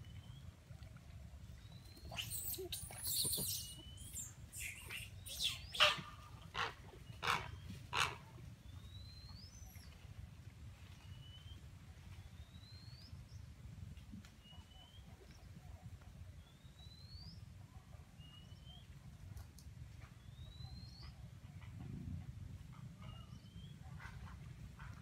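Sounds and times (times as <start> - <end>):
faint low rumble: 3.7 - 25.0.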